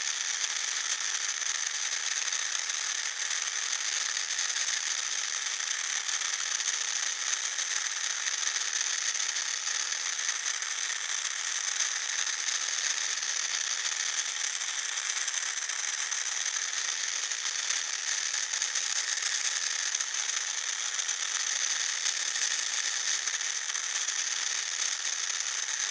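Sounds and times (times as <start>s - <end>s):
small electric motor whining: 0.0s - 25.9s.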